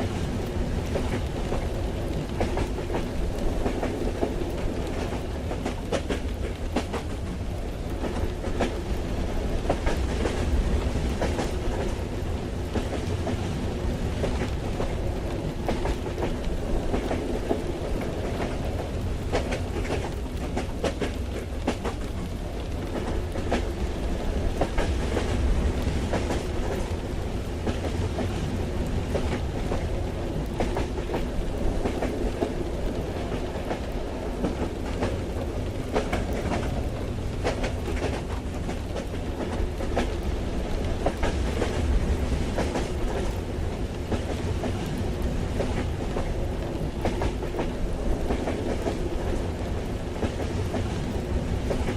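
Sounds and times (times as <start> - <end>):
train rumble inside carriage: 0.0 - 51.9
wheels clacking on rails: 0.0 - 51.9.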